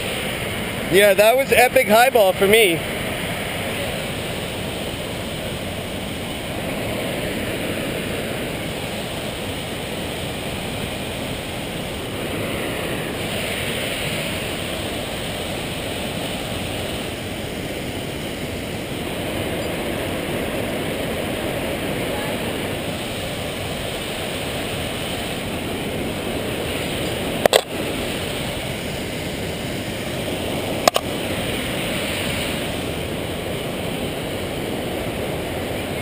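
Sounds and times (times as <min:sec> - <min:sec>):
creek rushing: 0:00.0 - 0:36.0.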